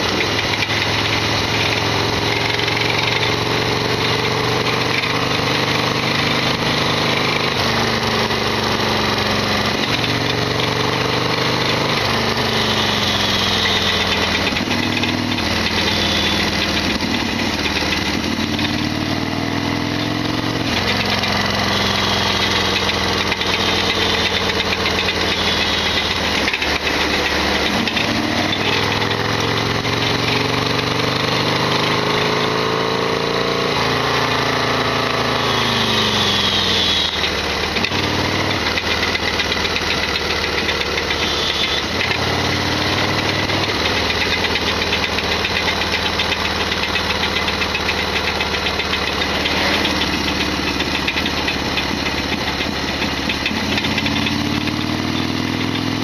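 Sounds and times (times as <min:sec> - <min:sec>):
loud rattling noise: 0:00.0 - 0:56.0
motorcycle engine running: 0:00.0 - 0:56.0.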